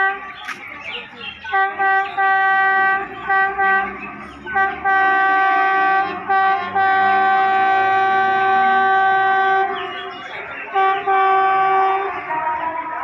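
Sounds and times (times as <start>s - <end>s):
locomotive horn toots and blasts: 0.0s - 0.4s, 1.3s - 13.0s.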